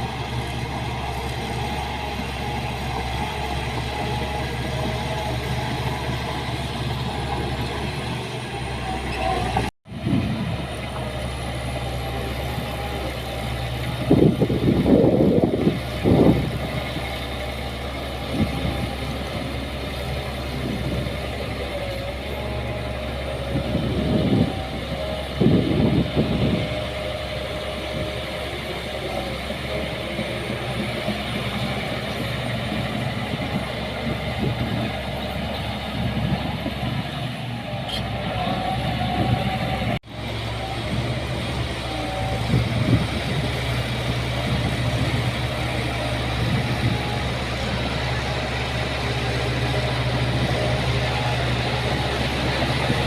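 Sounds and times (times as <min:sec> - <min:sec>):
heavy machinery diesel engine running: 0:00.0 - 0:53.0.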